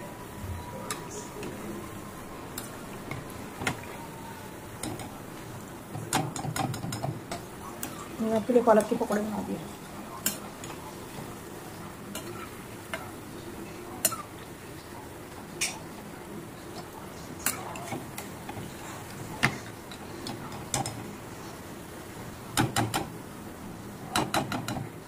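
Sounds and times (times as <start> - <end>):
food deep-frying in hot oil: 0.0 - 25.0.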